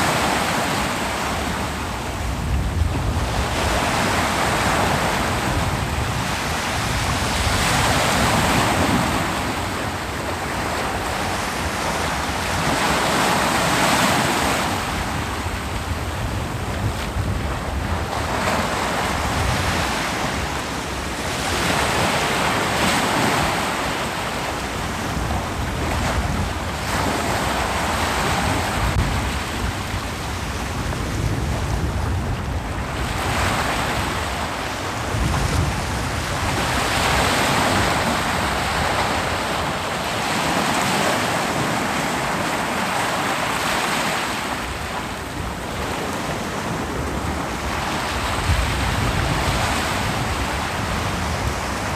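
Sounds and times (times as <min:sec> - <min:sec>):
ocean waves breaking on beach: 0:00.0 - 0:51.9
wind rumble on microphone: 0:00.0 - 0:51.9.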